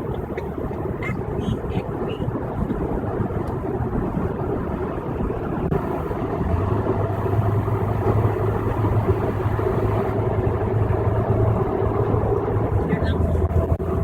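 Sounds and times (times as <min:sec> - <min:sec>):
low hum: 0:00.0 - 0:14.0
road and tyre noise: 0:00.0 - 0:14.0.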